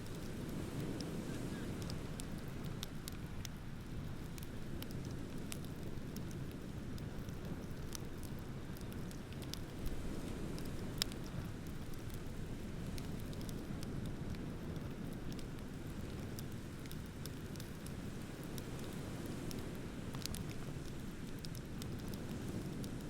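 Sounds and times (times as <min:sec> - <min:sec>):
bonfire crackling and popping: 0:00.0 - 0:23.0.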